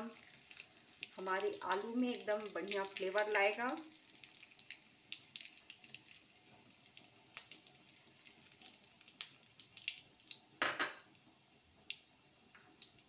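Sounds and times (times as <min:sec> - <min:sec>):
seeds popping in hot oil: 0:00.0 - 0:11.2, 0:11.8 - 0:13.0.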